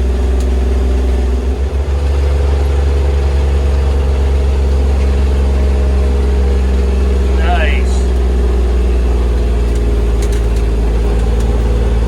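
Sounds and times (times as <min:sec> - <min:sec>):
diesel engine low hum: 0:00.0 - 0:12.0.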